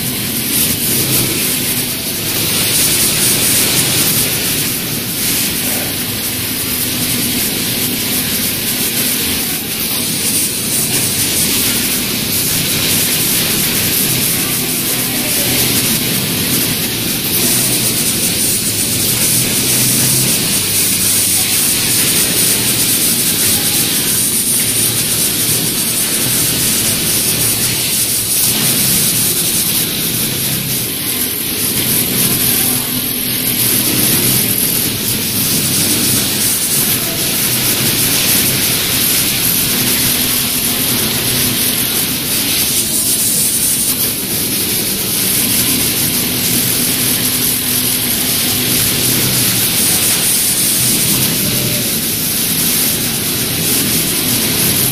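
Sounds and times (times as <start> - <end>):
sewing machine humming: 0.0 - 54.9.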